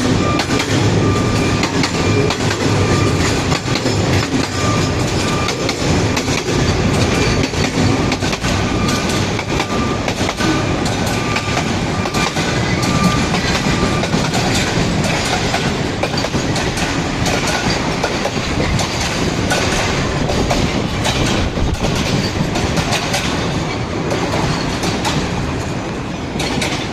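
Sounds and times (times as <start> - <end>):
train wheels clattering over rails: 0.0 - 26.9.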